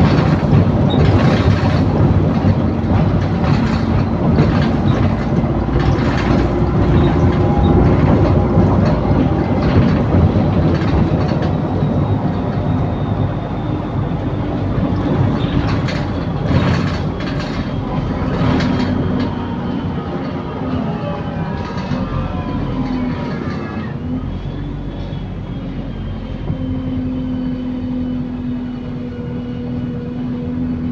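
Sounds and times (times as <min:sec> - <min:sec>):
bus body rattling and knocking: 0:00.0 - 0:30.9
bus engine and road noise: 0:00.0 - 0:30.9.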